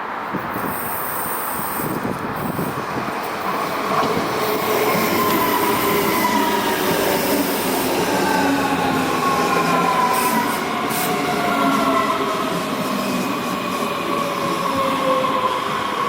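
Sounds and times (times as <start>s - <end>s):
electric train rumble: 0.4s - 16.0s.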